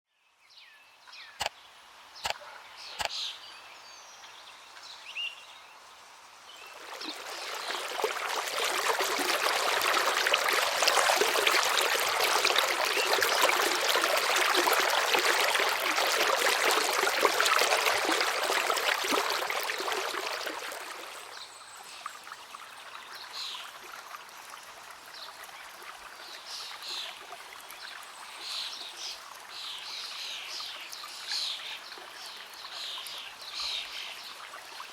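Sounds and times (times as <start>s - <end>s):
rushing river water: 6.3s - 34.9s.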